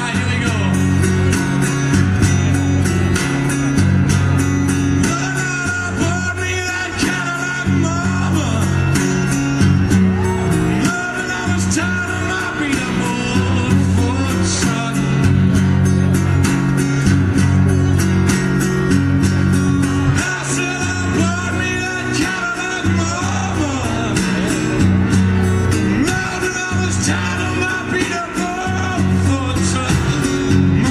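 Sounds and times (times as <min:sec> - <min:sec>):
electric guitar: 0:00.0 - 0:30.9
live blues band playing: 0:00.0 - 0:30.9.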